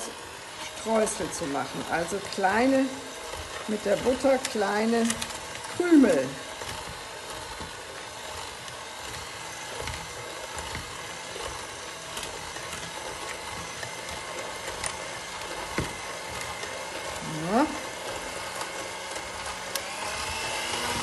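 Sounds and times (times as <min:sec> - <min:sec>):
electric hand mixer running: 0:00.0 - 0:21.0.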